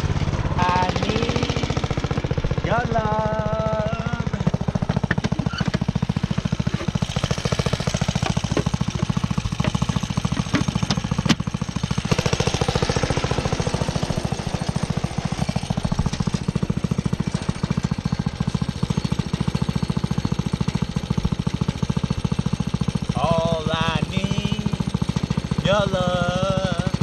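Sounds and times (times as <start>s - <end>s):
small engine chugging: 0.0s - 27.0s.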